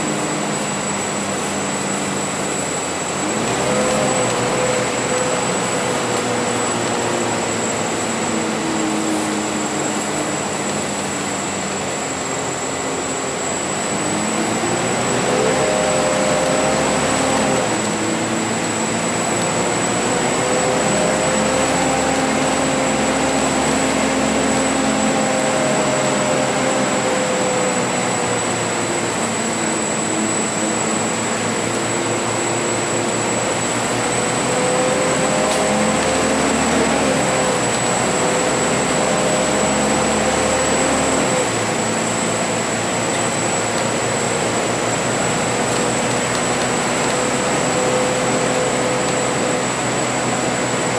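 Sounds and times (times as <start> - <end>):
bus engine and drivetrain: 0.0 - 50.9
road and tyre noise: 0.0 - 50.9.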